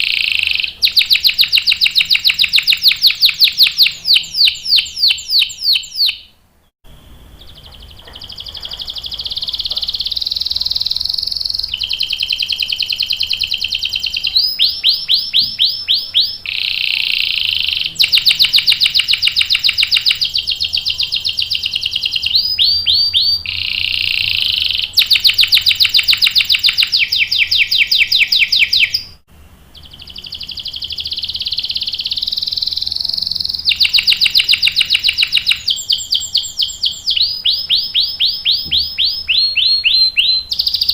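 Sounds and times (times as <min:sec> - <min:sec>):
canary trilling: 0:00.0 - 0:06.4, 0:07.0 - 0:40.9.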